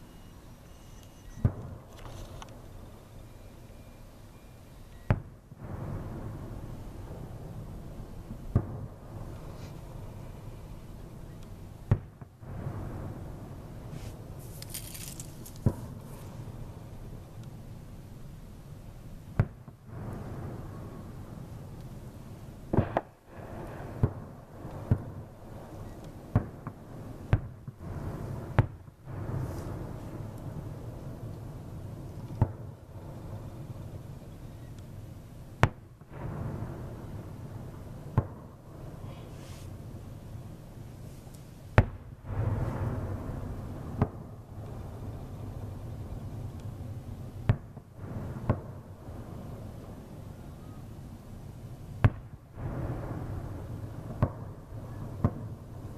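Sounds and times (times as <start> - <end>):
low steady rumble: 0.0 - 55.9
fireworks bangs: 0.8 - 2.9, 5.1 - 17.8, 19.2 - 55.9.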